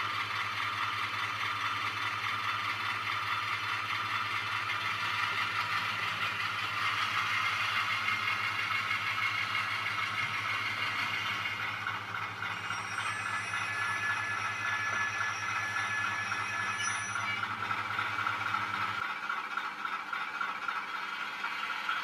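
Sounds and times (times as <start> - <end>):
small motor and gears whirring: 0.0 - 22.0
tinny diesel engine hum from speaker: 0.0 - 22.0.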